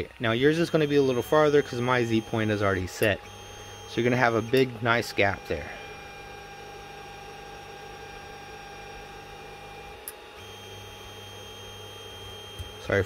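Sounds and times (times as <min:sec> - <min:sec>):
printer hum and whine: 0:00.0 - 0:13.0.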